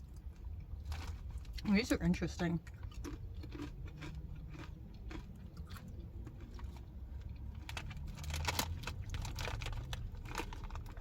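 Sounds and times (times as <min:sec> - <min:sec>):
chips being crunched and chewed: 0:00.1 - 0:11.0.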